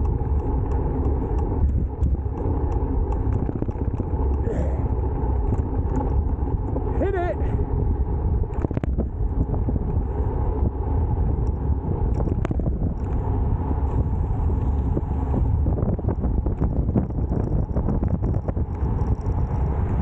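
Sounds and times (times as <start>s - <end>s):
tyre noise on tarmac: 0.0s - 20.0s
wind buffeting microphone: 0.0s - 20.0s.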